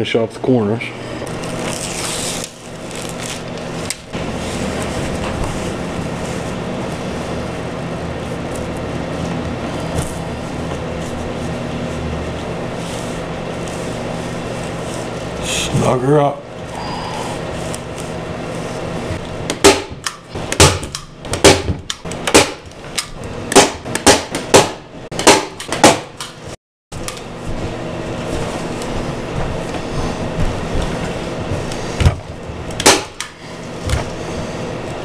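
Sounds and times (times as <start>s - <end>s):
steady low hum: 0.0s - 25.3s, 27.0s - 35.0s.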